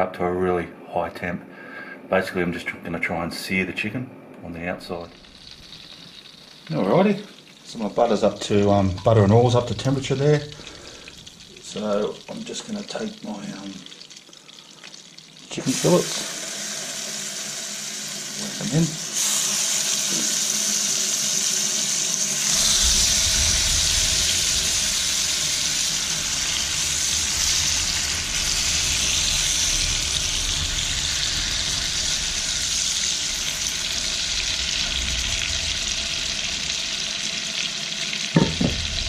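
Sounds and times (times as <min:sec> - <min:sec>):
chicken sizzling in a frying pan: 0:05.0 - 0:39.0.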